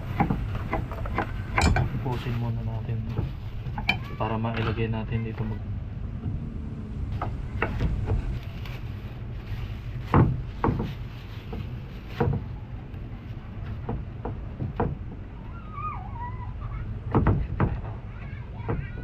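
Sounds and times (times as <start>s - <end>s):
low rumble: 0.0s - 15.6s.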